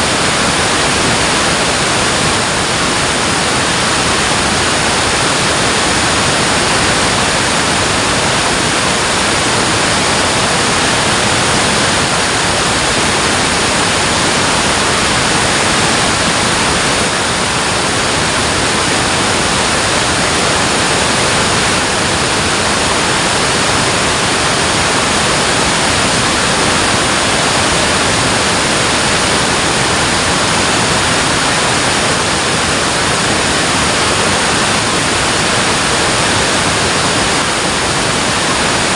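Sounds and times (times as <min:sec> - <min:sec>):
water roaring over dam spillway: 0:00.0 - 0:38.9.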